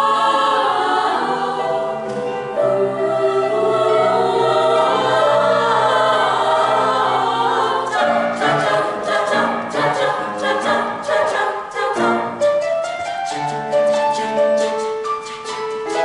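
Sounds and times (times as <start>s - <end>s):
choir singing chords: 0.0s - 16.0s.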